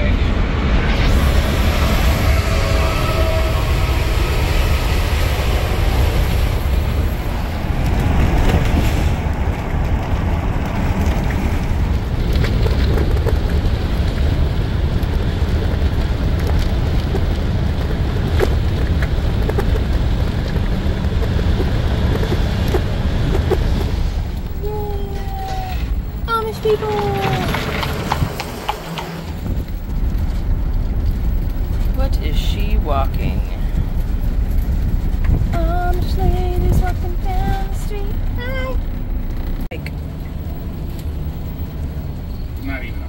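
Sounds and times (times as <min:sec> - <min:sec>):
road and engine rumble: 0:00.0 - 0:43.0.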